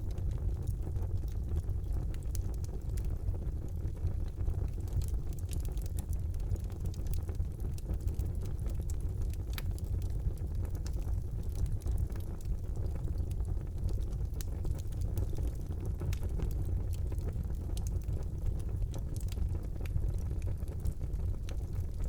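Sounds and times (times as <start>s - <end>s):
low rumble of flames: 0.0s - 22.0s
wood fire crackles and pops: 0.0s - 22.0s.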